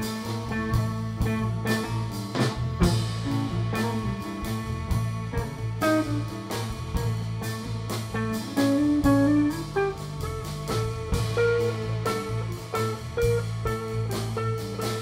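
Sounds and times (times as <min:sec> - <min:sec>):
drum kit beat: 0:00.0 - 0:15.0
piano: 0:00.0 - 0:15.0.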